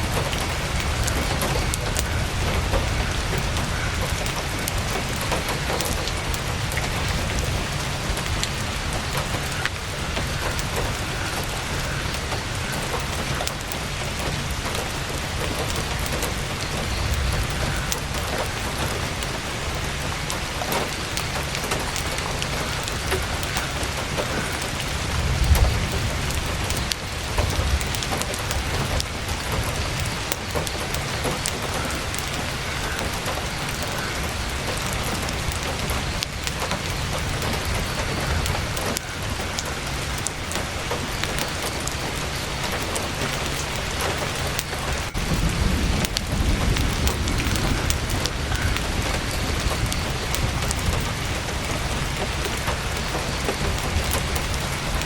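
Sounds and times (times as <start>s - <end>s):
heavy rain on tent canvas: 0.0s - 55.0s.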